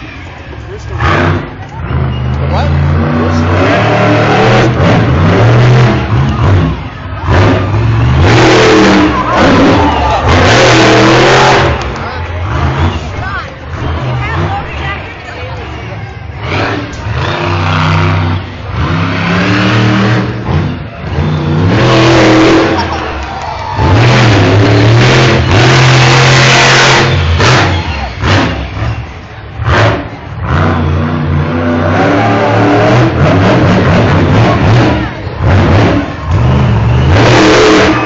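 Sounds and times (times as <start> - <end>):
truck engine revving hard: 0.7 - 38.0.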